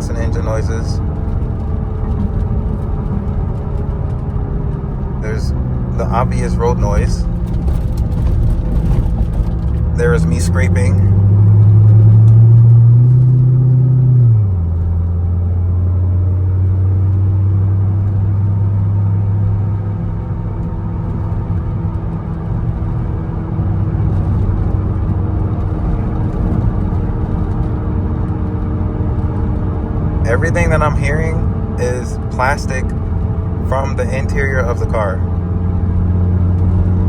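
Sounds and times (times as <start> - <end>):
car engine and exhaust at cruise: 0.0 - 37.0
tyre and road noise: 0.0 - 37.0.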